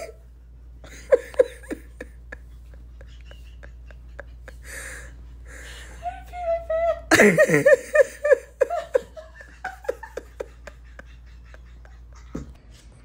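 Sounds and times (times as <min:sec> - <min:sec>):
person laughing: 0:00.8 - 0:12.6.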